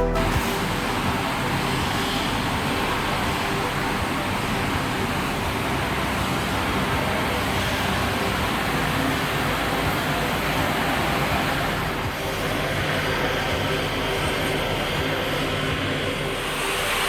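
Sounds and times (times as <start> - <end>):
industrial machinery running: 0.0 - 17.0.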